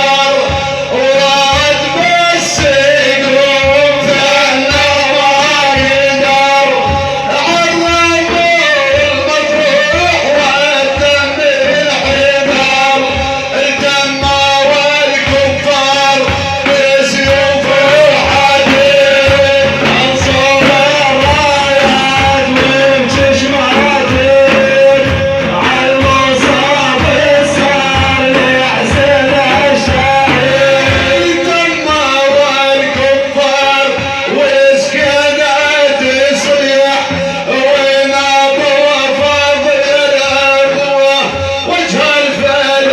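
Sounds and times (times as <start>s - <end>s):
frame drum beats: 0.0s - 37.9s
men singing a chant: 0.0s - 42.9s.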